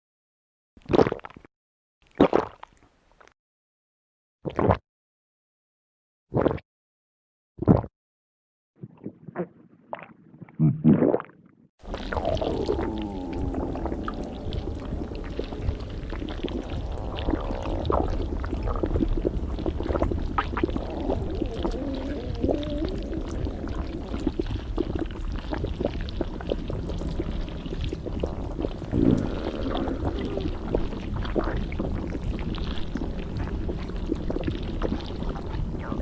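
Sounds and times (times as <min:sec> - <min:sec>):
stomach gurgling and rumbling: 0:00.8 - 0:03.4, 0:04.5 - 0:04.8, 0:06.3 - 0:06.6, 0:07.6 - 0:07.9, 0:08.8 - 0:36.0.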